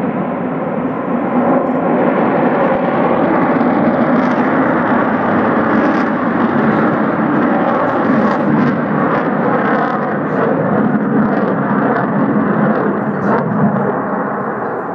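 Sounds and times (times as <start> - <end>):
jet engine roar: 0.0 - 14.9.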